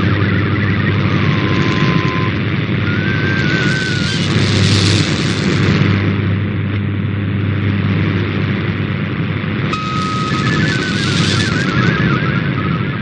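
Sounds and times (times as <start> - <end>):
steady low interference buzz: 0.0 - 12.1
radio static and hiss: 0.0 - 12.6.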